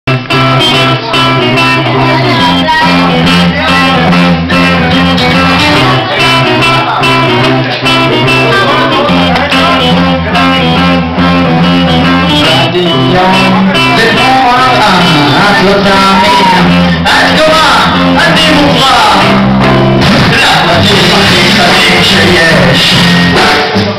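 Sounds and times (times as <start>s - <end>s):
rock band playing live: 0.1s - 23.9s.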